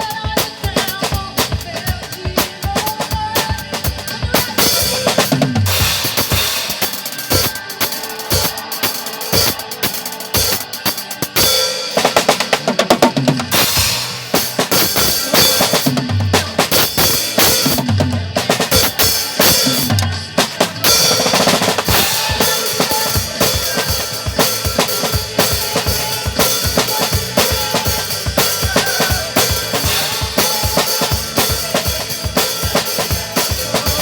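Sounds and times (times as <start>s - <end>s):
drum kit playing: 0.0s - 34.0s
recorded worship song: 0.0s - 34.0s.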